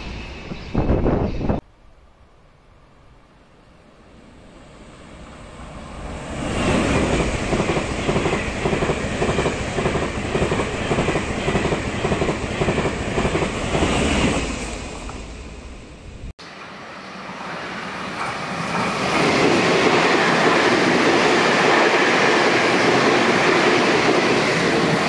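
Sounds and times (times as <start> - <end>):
train passing at high speed: 3.3 - 25.0.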